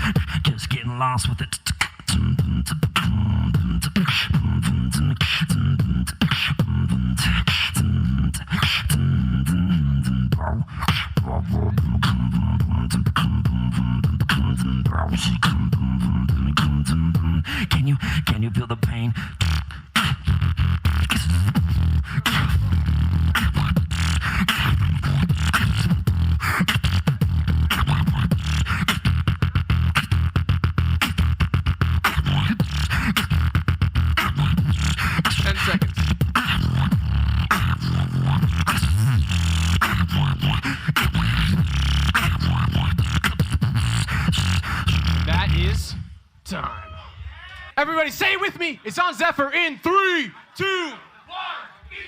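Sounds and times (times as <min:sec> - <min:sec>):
beatboxed snare hits: 0:00.0 - 0:09.0, 0:10.3 - 0:45.8
beatboxing vocal bass line: 0:00.0 - 0:50.9.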